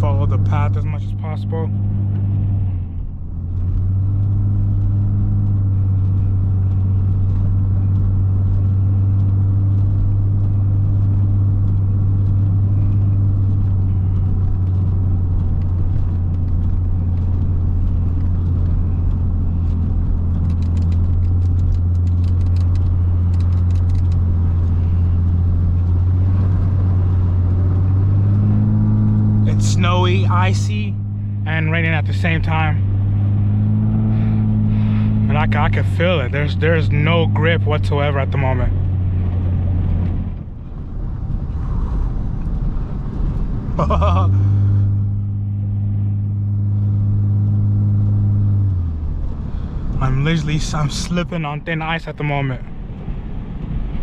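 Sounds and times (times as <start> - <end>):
car engine low drone: 0.0 - 54.0.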